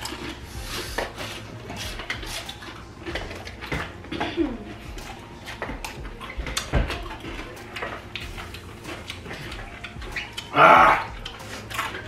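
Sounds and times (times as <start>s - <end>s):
chewing crunchy salad: 0.0s - 12.0s.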